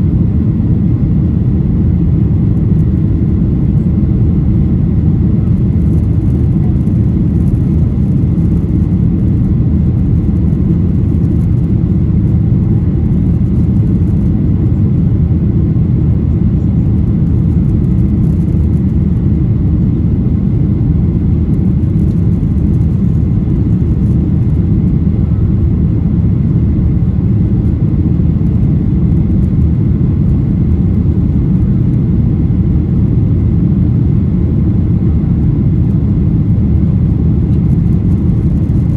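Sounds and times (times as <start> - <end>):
jet engine rumble in cabin: 0.0 - 38.9.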